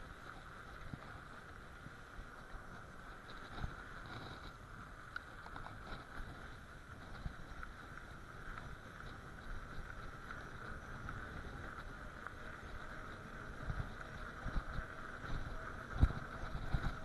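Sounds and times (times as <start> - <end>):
bicycle tyres rolling on snow: 0.0 - 17.0.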